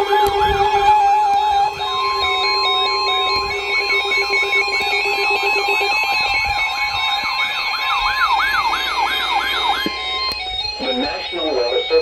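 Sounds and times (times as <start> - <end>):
siren wailing: 0.0 - 12.0
stepping electronic beeps: 1.4 - 12.0
steady alert tone: 1.5 - 12.0.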